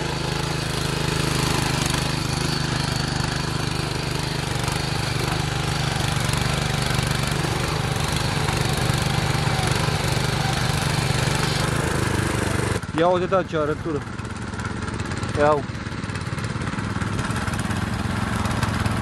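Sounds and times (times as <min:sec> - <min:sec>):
power tiller engines running: 0:00.0 - 0:19.0.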